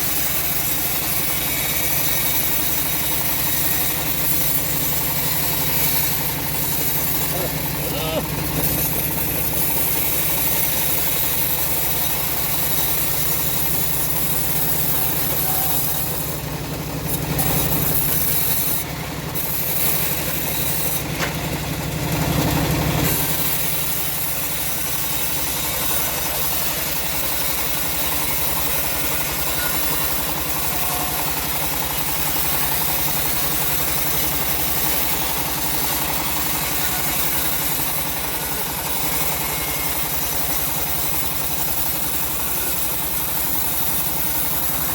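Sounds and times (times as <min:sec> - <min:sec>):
bandsaw sawmill cutting wood: 0:00.0 - 0:44.9.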